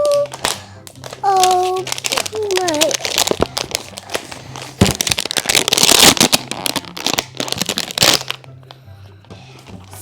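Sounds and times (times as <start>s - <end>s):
plastic and cardboard crinkling: 0.0s - 8.5s.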